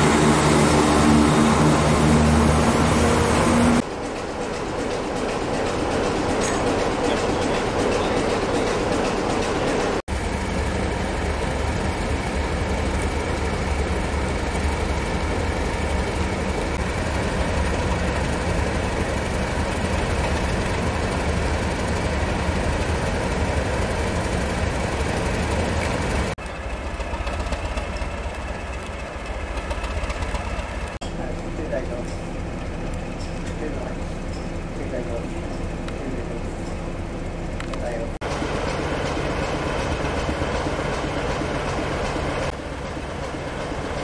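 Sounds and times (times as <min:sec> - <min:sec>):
diesel locomotive engine rumbling: 0:00.0 - 0:44.0.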